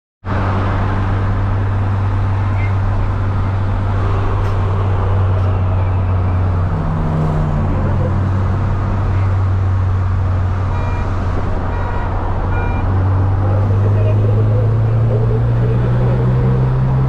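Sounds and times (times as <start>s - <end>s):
car engine drone: 0.2s - 17.0s
road noise: 0.2s - 17.0s.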